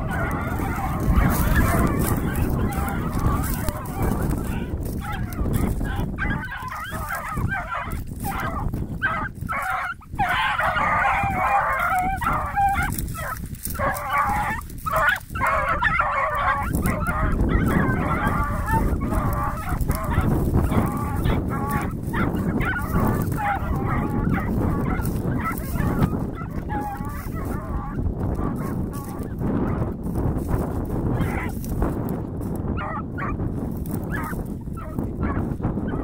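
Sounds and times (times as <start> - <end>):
hounds baying: 0.0 - 36.0.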